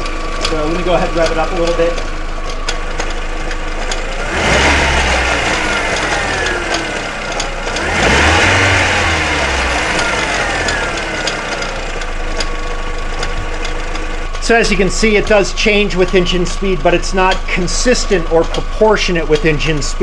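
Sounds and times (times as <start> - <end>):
car engine revving: 0.0 - 20.0
engine ticking: 0.0 - 20.0.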